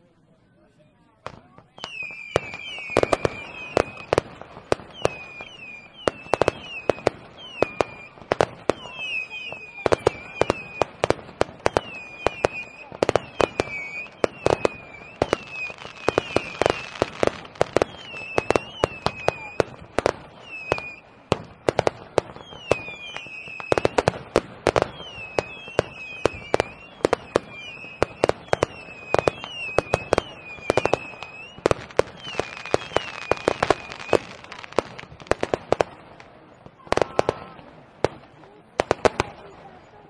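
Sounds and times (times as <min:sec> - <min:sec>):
fireworks bangs and crackles: 0:01.2 - 0:40.0
firework whistling tones: 0:01.3 - 0:38.4.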